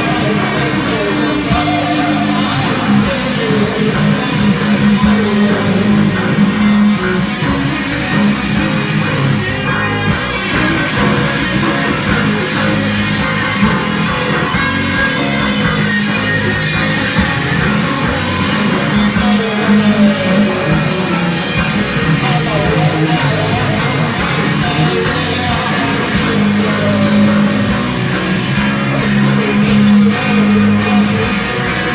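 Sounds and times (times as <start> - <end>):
bass guitar: 0.0 - 31.9
distorted electric guitar: 0.0 - 31.9
drums: 0.0 - 31.9.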